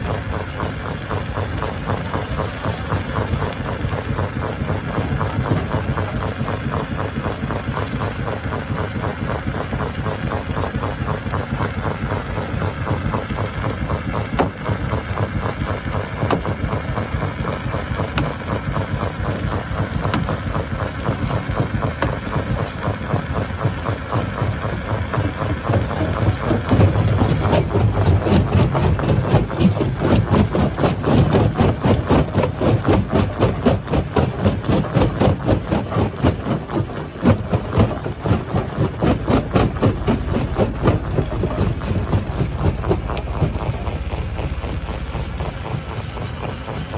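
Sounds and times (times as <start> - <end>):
stone crusher machinery rumbling: 0.0 - 46.9.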